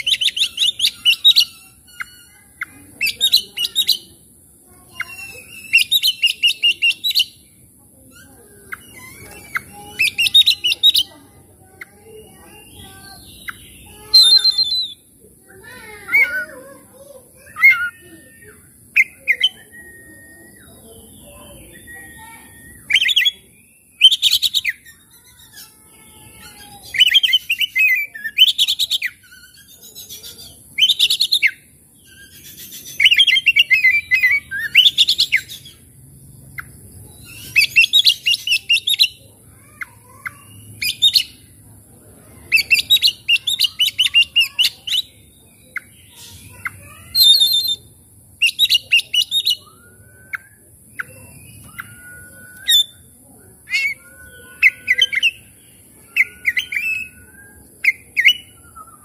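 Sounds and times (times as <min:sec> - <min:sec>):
magpie-robin singing: 0:00.0 - 0:41.6, 0:42.2 - 0:59.0.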